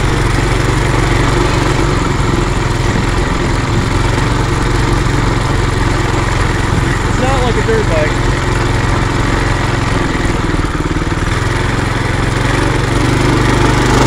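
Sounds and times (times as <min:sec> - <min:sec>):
mini bike engine running: 0:00.0 - 0:14.0
riding noise: 0:00.0 - 0:14.0.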